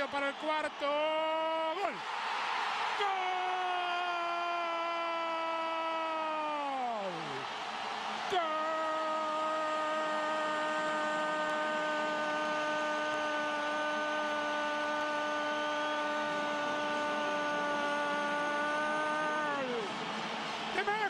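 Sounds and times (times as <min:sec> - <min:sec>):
stadium crowd cheering: 0:00.0 - 0:21.0.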